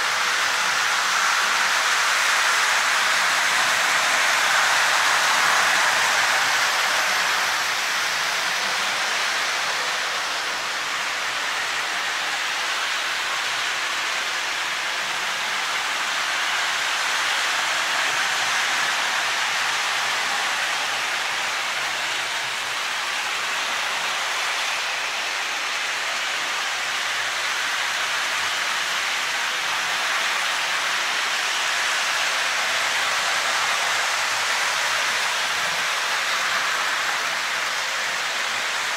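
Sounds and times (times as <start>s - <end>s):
model trains rolling hiss: 0.0s - 38.9s.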